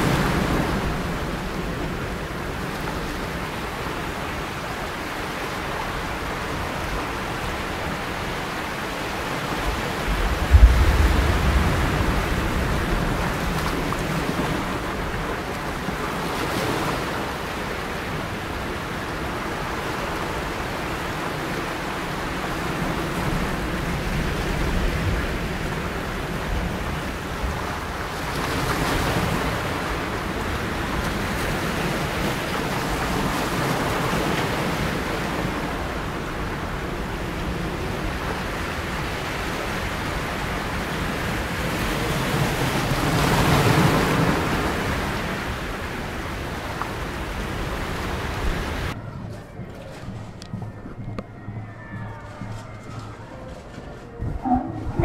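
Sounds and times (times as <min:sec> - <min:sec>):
ocean surf: 0:00.0 - 0:55.0.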